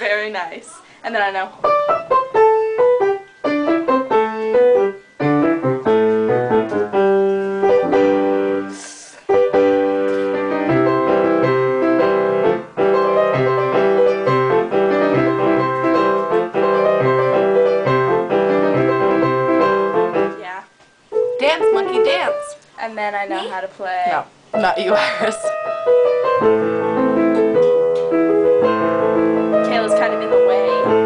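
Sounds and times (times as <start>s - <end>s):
piano playing: 0.0s - 31.0s.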